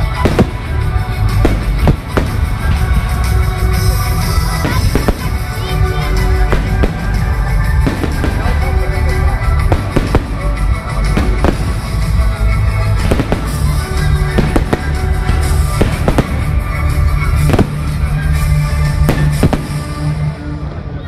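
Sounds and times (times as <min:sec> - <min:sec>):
fireworks bangs: 0:00.0 - 0:20.8
music playing: 0:00.0 - 0:21.0.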